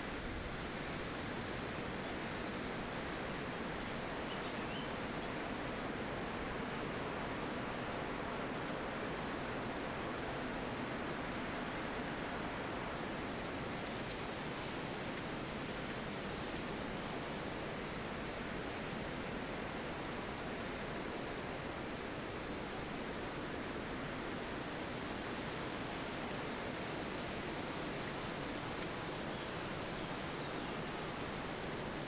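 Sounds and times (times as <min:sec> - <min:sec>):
wind through forest trees: 0:00.0 - 0:32.0.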